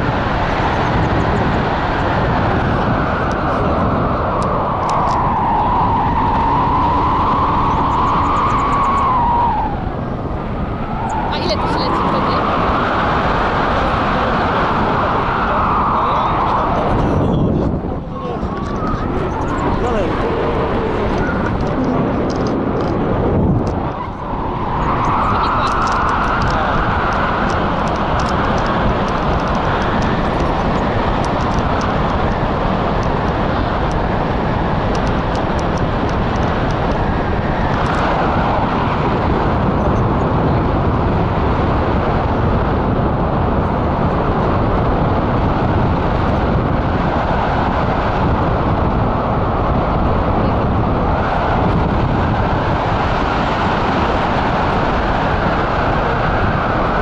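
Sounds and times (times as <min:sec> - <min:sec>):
wind roaring over microphone: 0:00.0 - 0:57.0.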